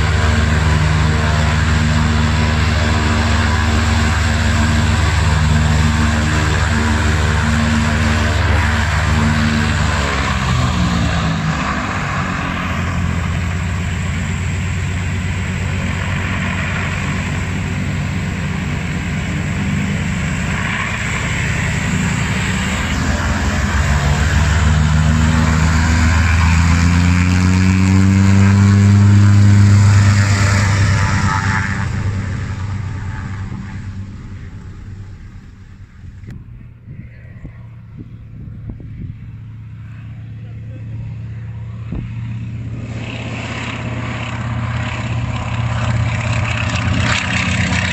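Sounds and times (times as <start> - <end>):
propeller plane engine running: 0.0 - 47.9.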